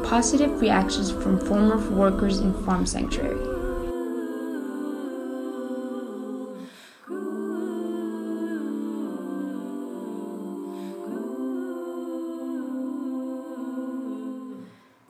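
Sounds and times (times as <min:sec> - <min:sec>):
voices humming held chords: 0:00.0 - 0:14.7.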